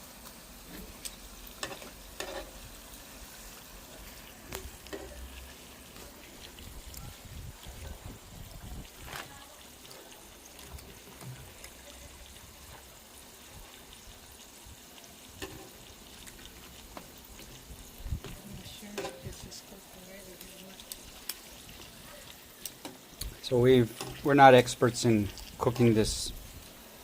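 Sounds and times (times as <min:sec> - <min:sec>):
fish sizzling in oil: 0:00.0 - 0:27.0
oil crackles and pops: 0:00.0 - 0:27.0.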